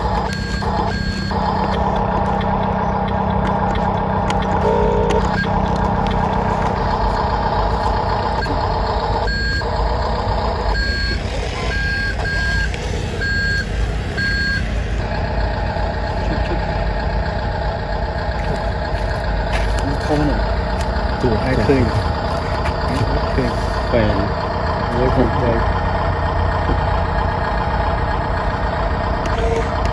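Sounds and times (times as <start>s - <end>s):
engine-like drone: 0.0s - 29.9s
reversing beeper: 0.0s - 29.9s.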